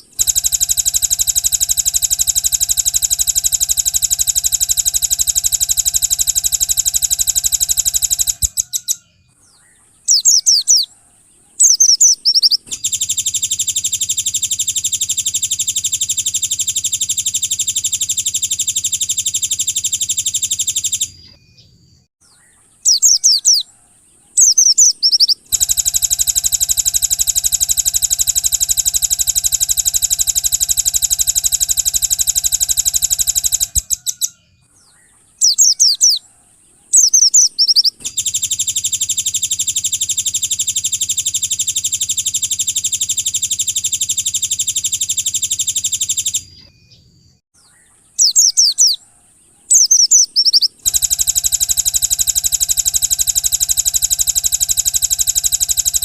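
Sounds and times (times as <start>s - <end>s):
songbird chirps and trill: 0.0s - 56.0s.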